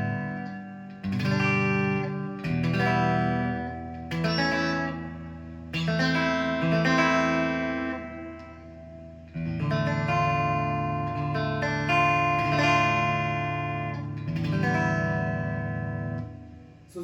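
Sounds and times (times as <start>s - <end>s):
electric guitar strummed chords: 0.0s - 16.8s.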